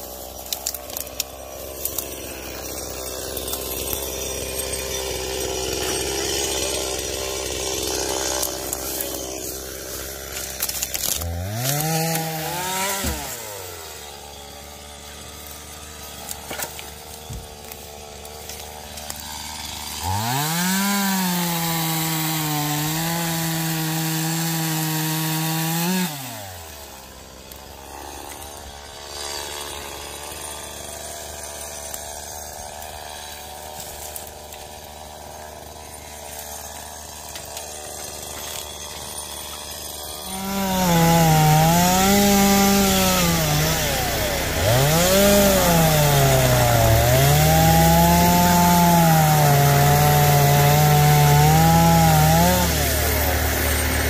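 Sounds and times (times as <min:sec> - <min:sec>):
chainsaw cutting through branches: 0:00.0 - 0:54.0
chainsaw idling and revving: 0:00.0 - 0:54.0.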